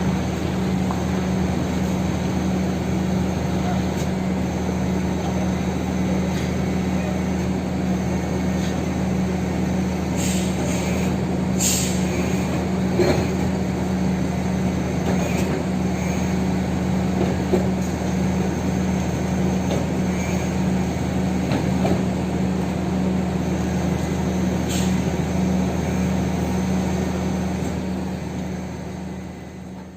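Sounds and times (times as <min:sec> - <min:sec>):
truck diesel engine running: 0:00.0 - 0:29.9.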